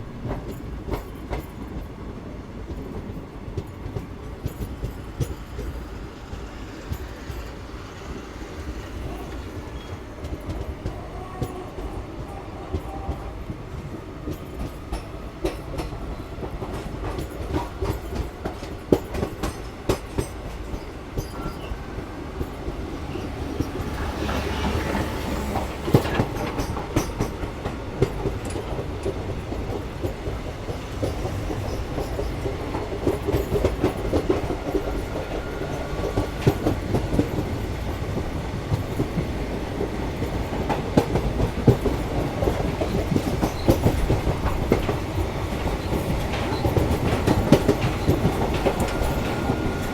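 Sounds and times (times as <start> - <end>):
train rumbling along track: 0.0 - 49.9
wheels clacking over rail joints: 2.7 - 49.9.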